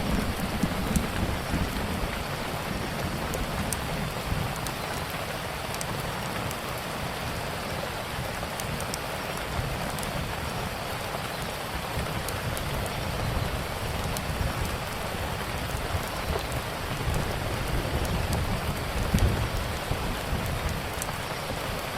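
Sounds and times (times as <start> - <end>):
wood fire crackling: 0.0 - 7.5, 11.1 - 21.9
heavy rain: 0.0 - 21.9.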